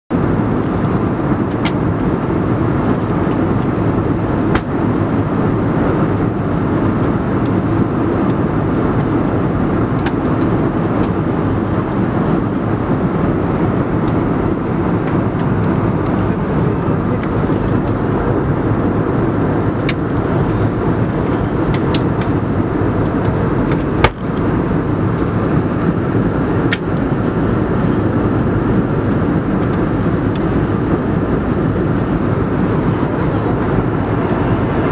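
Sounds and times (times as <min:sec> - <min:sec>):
airliner cabin noise: 0:00.1 - 0:34.9.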